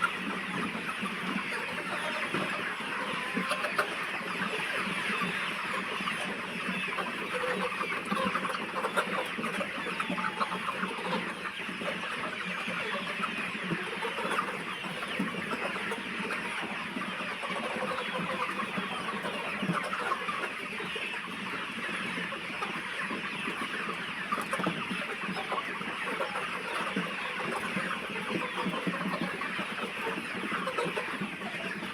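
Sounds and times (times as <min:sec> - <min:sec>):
chickens clucking and chirping: 0:00.0 - 0:31.9.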